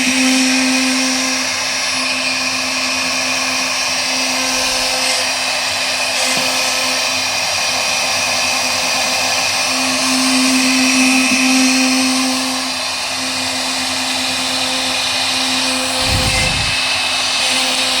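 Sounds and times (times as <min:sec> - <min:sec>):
router spindle whining: 0:00.0 - 0:18.0.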